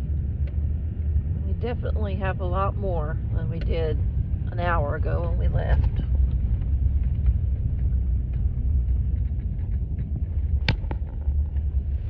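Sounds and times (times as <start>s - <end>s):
vehicle rumble on snowy road: 0.0s - 12.0s.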